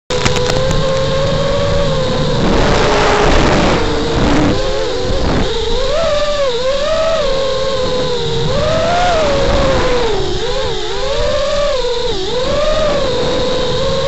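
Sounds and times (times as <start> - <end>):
quadcopter motors whining: 0.1 - 14.0
rushing noise: 0.1 - 14.0.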